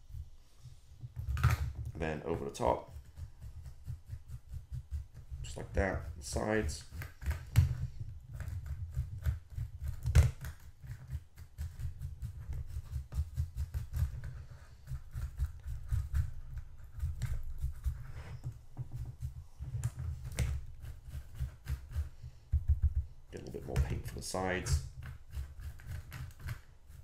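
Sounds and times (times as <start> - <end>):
stiff paintbrush scrubbing plastic: 0.0 - 27.0.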